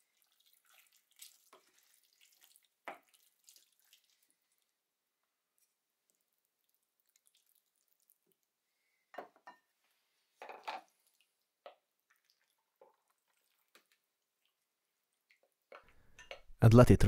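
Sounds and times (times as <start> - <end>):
wet squishes of meat in oil: 0.0 - 8.9, 10.8 - 16.1.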